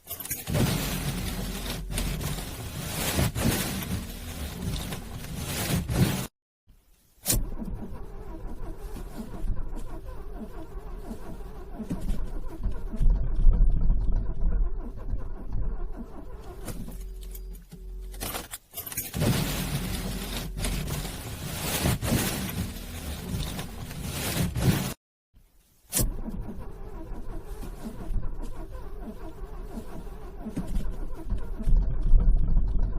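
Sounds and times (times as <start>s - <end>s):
car engine cranking: 0.0s - 6.3s, 7.2s - 25.0s, 25.9s - 32.9s.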